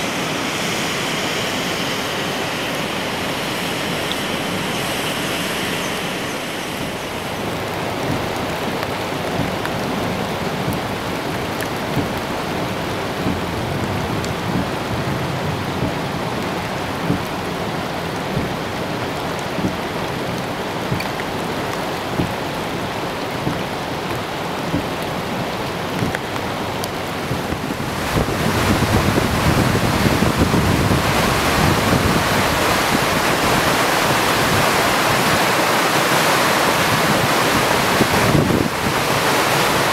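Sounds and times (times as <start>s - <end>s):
rushing rain and floodwater: 0.0s - 39.9s
wind noise on microphone: 0.0s - 39.9s.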